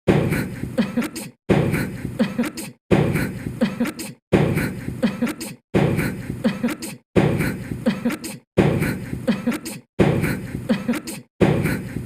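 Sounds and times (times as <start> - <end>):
man sneezing: 0.3 - 12.0.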